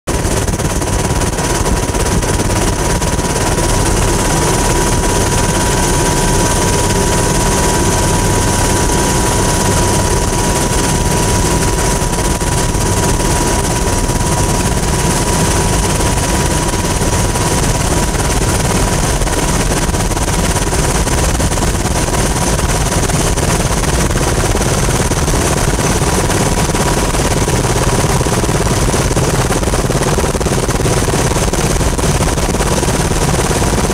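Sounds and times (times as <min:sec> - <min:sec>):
helicopter engine and rotor: 0:00.1 - 0:33.9
high turbine whine: 0:00.1 - 0:33.9.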